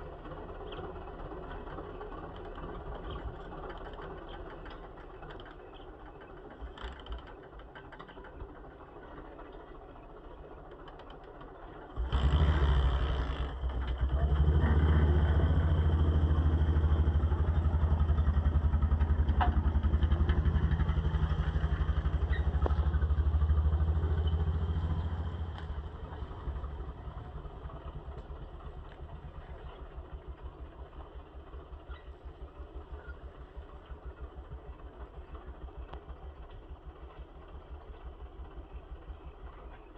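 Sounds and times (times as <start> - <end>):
tractor engine revving and idling: 0.0 - 39.9.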